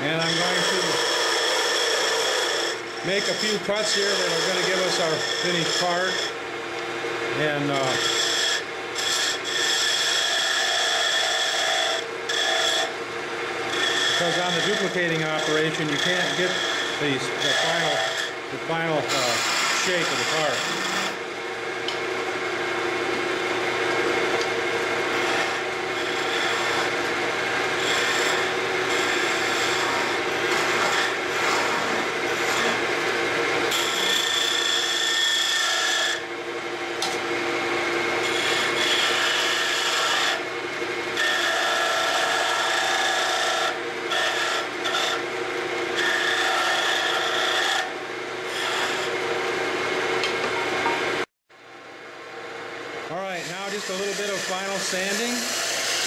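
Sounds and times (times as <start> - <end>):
chisel rasping on spinning wood: 0.0 - 6.4, 7.3 - 21.2, 23.9 - 36.2, 38.2 - 40.5, 41.2 - 45.2, 46.0 - 49.2, 53.1 - 56.0
lathe motor hum: 0.0 - 51.3, 52.6 - 56.0.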